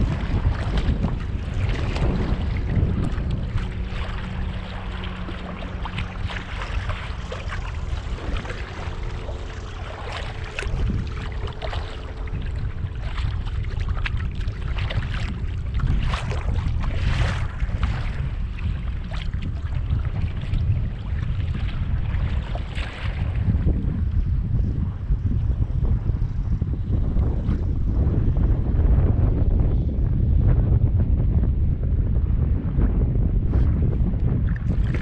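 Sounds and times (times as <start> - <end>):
water slapping against hull: 0.0 - 30.6, 31.4 - 35.0
wind buffeting microphone: 0.0 - 35.0.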